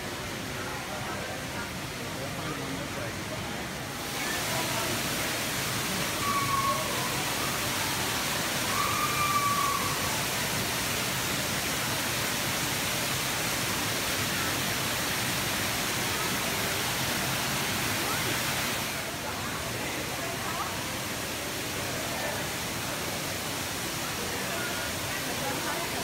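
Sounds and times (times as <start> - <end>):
water rushing in a water feature: 0.0 - 26.0.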